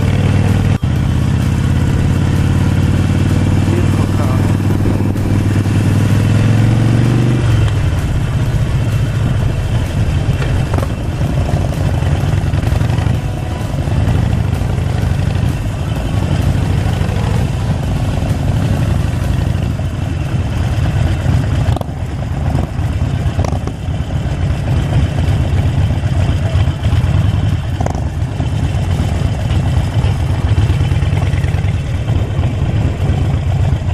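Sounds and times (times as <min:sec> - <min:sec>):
motorcycle engine running: 0:00.0 - 0:33.9
road noise: 0:00.0 - 0:33.9.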